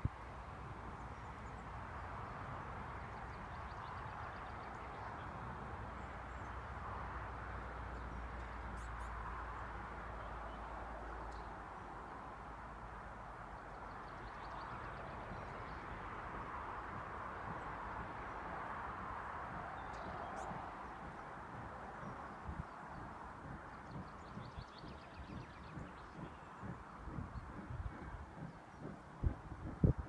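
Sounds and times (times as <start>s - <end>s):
outdoor background noise: 0.0s - 30.0s
bird song: 0.1s - 30.0s.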